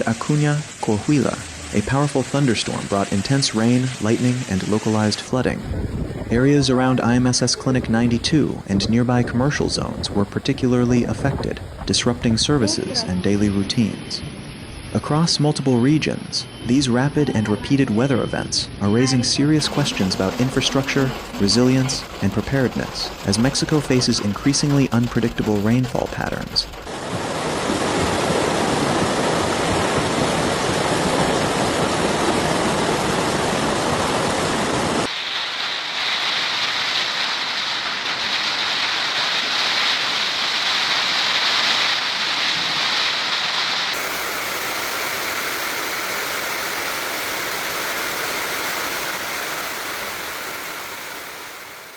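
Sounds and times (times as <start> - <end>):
heavy rain: 0.0 - 8.2, 12.4 - 13.2, 19.0 - 51.9
floodwater flowing: 0.0 - 13.8, 19.0 - 51.9.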